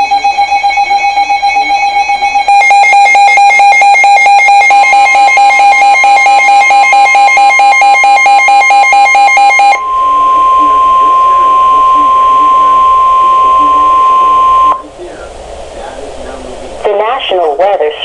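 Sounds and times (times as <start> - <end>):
electronic alarm beeping: 0.0 - 14.8
higher alarm tone: 0.0 - 14.8.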